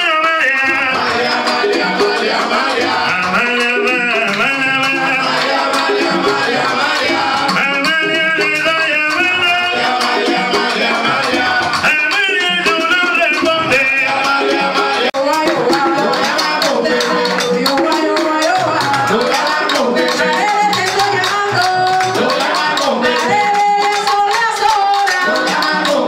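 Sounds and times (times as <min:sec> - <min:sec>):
drums and percussion: 0:00.0 - 0:26.0
group of people singing: 0:00.0 - 0:26.0.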